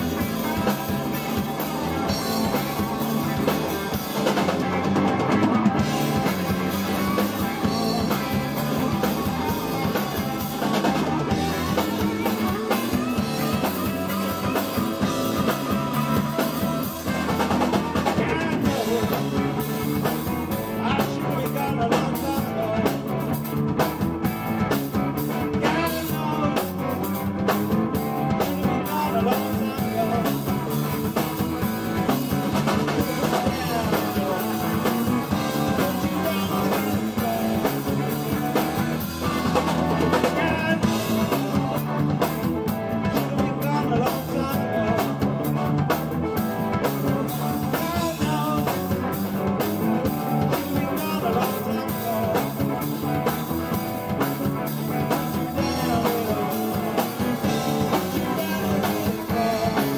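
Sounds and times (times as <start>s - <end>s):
person singing: 0.0s - 23.3s, 25.3s - 59.9s
drum kit: 0.0s - 59.9s
electric guitar: 0.0s - 59.9s.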